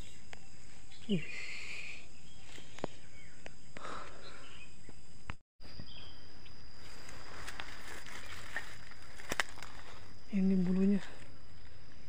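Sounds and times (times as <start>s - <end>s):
leaves and twigs crackling underfoot: 0.0s - 3.6s, 5.6s - 12.0s.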